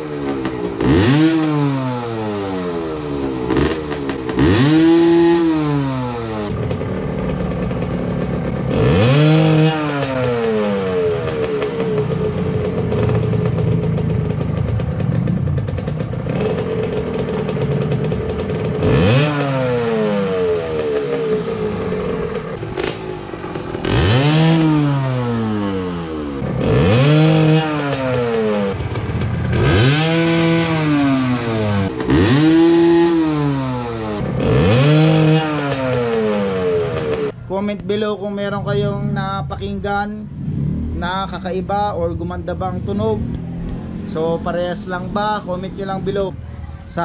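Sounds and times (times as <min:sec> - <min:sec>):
motorcycle engine idling and revving: 0:00.0 - 0:47.0.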